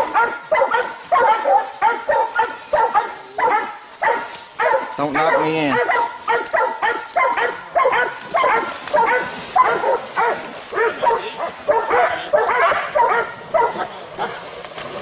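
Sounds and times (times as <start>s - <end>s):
dogs barking rapidly: 0.0s - 14.4s.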